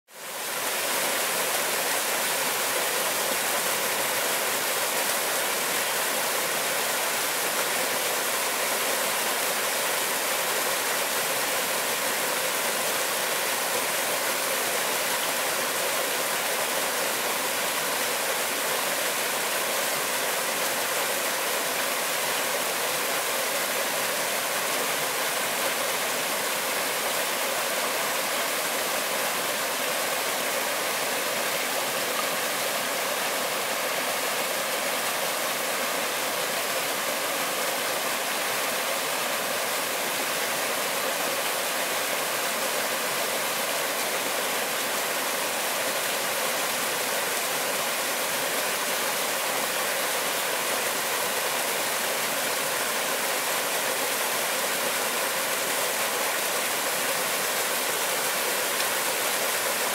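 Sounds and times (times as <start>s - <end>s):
waterfall and stream rushing: 0.0s - 59.9s.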